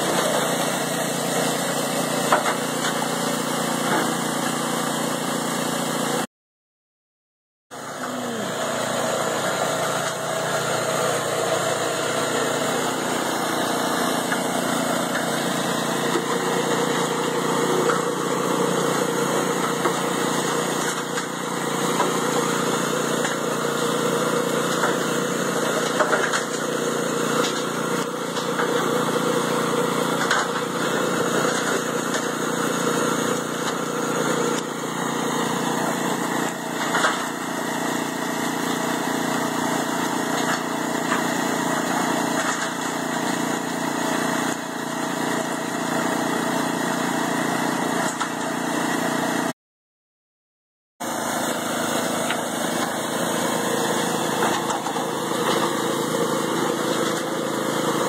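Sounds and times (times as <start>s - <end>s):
cement mixer engine chugging: 0.0s - 6.2s, 7.7s - 49.5s, 51.0s - 58.0s.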